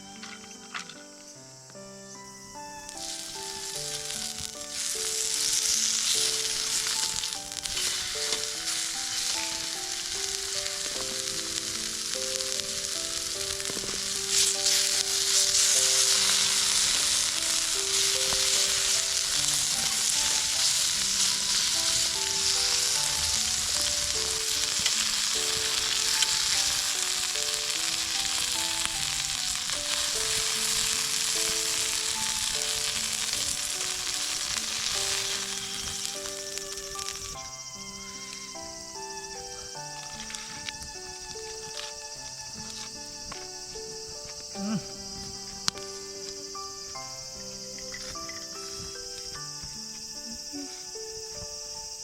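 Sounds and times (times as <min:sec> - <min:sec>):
light melodic background tune: 0:00.0 - 0:52.0
food sizzling in a hot pan: 0:02.1 - 0:52.0.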